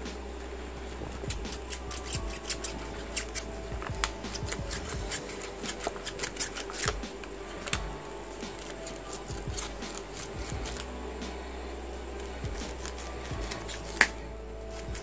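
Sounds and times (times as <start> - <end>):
plastic film scraping and crackling: 0.0 - 11.0, 12.1 - 15.0
steady low hum: 0.0 - 15.0.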